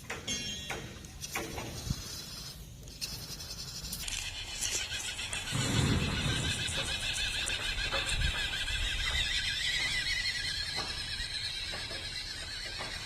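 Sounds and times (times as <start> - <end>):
rc car electric motor whining: 1.7 - 13.0.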